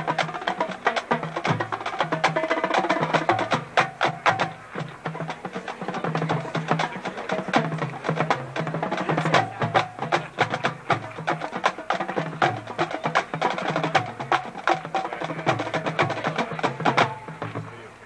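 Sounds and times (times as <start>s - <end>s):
percussion-driven music: 0.0s - 18.0s.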